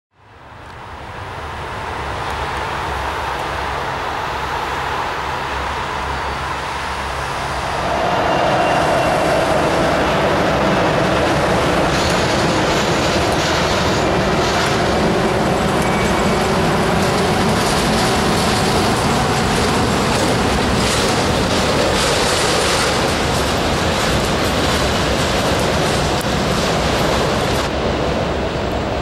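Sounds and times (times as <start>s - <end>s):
jet engines roaring: 0.8s - 29.0s.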